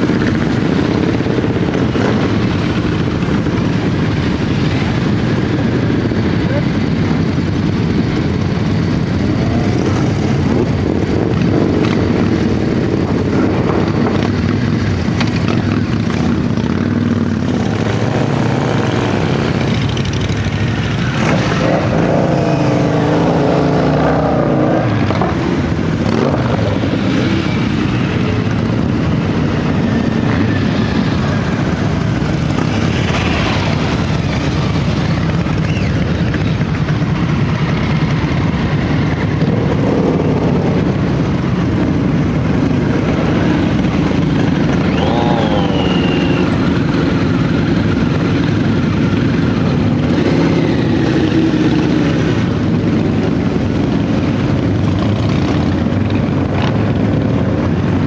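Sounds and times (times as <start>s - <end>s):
motorcycle engines passing: 0.0s - 58.0s.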